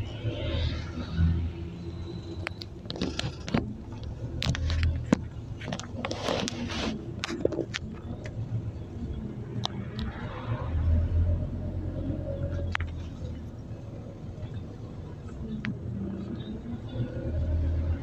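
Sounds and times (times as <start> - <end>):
bus engine hum: 0.0 - 18.0
rattles and clicks in bus interior: 0.0 - 18.0.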